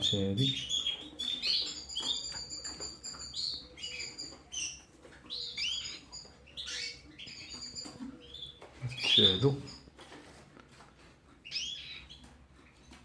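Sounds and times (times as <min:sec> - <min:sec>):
canaries chirping: 0:00.0 - 0:13.0.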